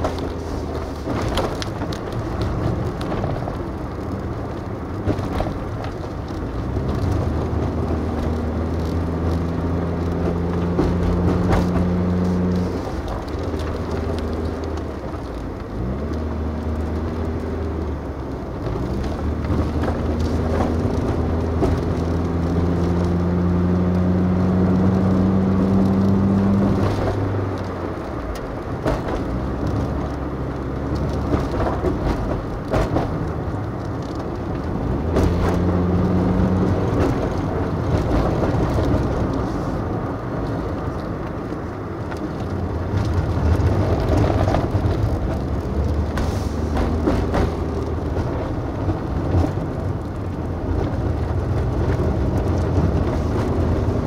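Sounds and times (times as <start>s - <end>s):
car engine under load: 0.0s - 54.0s
tyre road noise: 0.0s - 54.0s.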